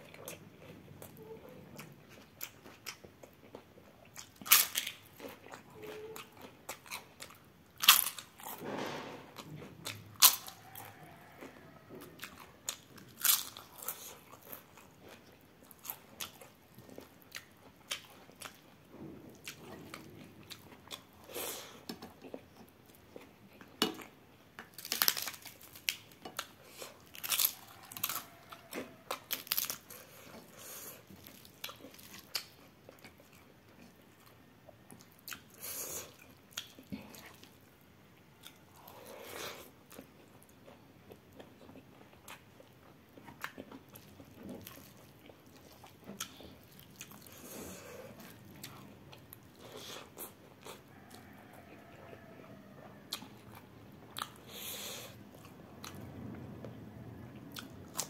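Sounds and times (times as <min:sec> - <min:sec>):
soft chewing: 0:00.0 - 0:08.6, 0:09.4 - 0:58.0
crunching crisp food: 0:01.8 - 0:08.6, 0:09.8 - 0:18.7, 0:24.6 - 0:37.6, 0:38.4 - 0:56.1.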